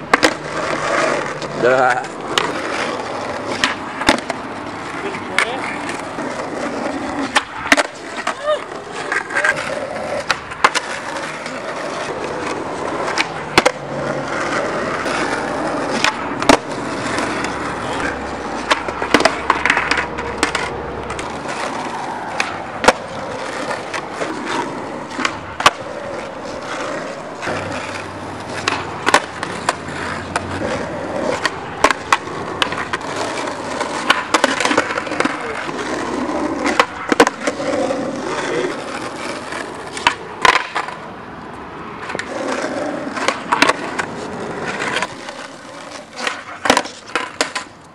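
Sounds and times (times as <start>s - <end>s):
skateboard clacks: 0.0s - 47.9s
skateboard wheels rolling on asphalt: 0.0s - 47.9s.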